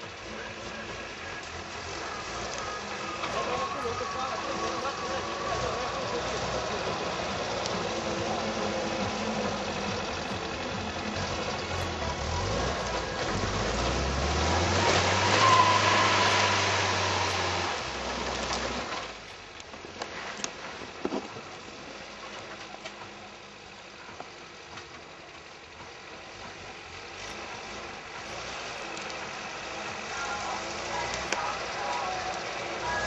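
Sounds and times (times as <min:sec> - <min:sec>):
truck engine in snow: 0:00.0 - 0:33.0.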